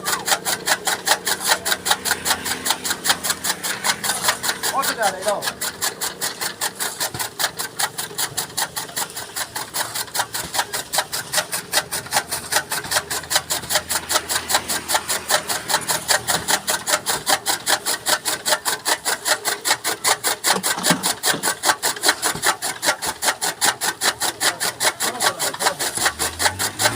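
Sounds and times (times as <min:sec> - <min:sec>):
chaff cutter chopping stalks: 0:00.0 - 0:26.9.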